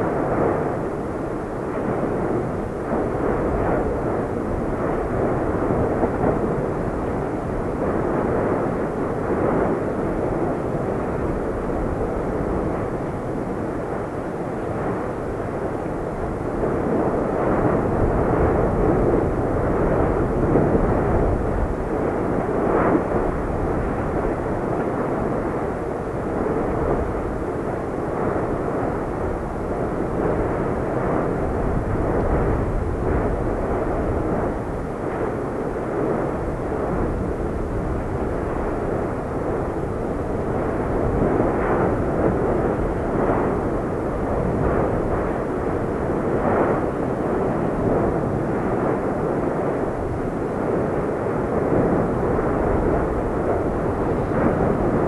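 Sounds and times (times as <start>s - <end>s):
lava bursts: 0.0s - 55.0s.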